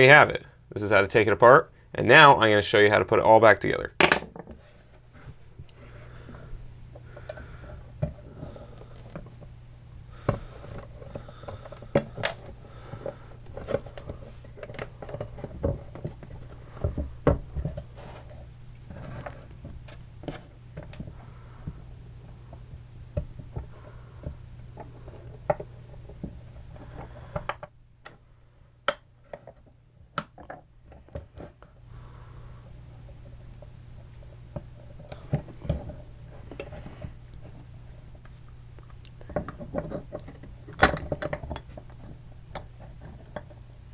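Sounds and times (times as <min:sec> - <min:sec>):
steady low hum: 0:00.0 - 0:29.0, 0:30.8 - 0:43.9.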